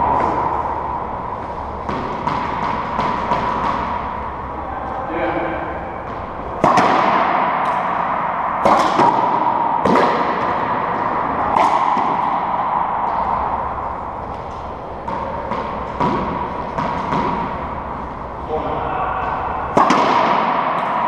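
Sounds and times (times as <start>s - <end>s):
racquetball ball smacks echoing: 1.6s - 4.5s, 5.5s - 18.3s, 19.2s - 21.0s.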